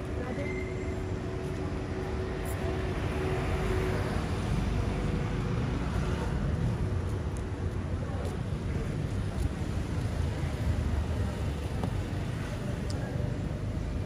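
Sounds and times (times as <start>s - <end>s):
street traffic noise: 0.0s - 14.0s.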